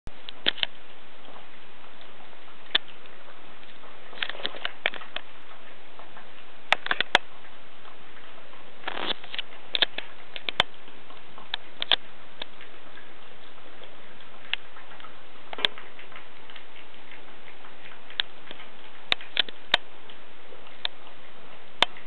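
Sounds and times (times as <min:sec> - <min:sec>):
puppy chewing and crunching: 0:00.1 - 0:22.0.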